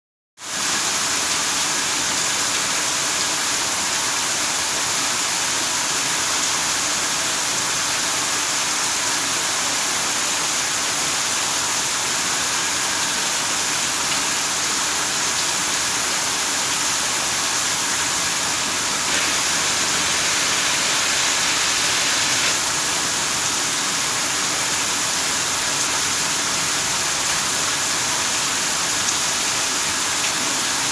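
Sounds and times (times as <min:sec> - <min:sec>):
water pouring like a waterfall: 0:00.4 - 0:30.9.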